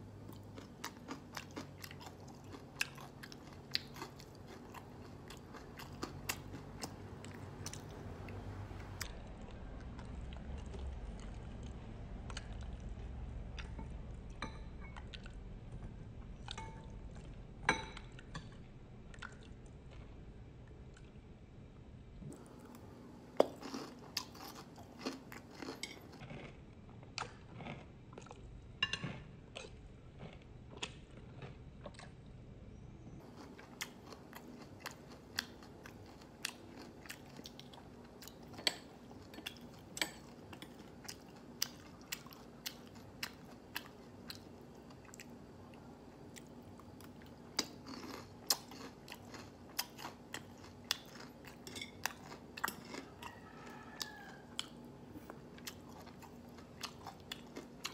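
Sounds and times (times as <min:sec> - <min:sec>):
chewing crispy food: 0:00.2 - 0:14.4, 0:22.3 - 0:32.2, 0:33.2 - 0:57.9.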